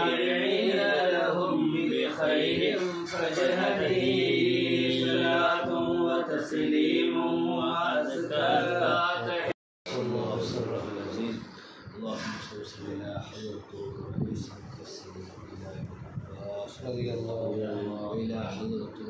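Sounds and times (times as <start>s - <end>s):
man chanting devotional verses: 0.0s - 6.6s, 7.6s - 19.0s.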